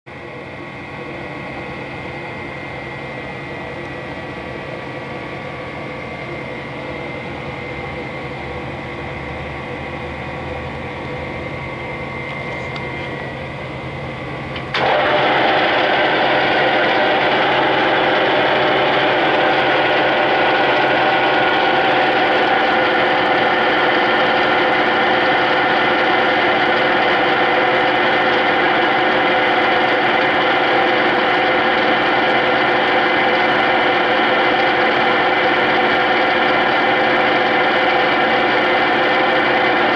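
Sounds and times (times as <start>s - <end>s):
lathe gear drone and whine: 0.1s - 39.9s.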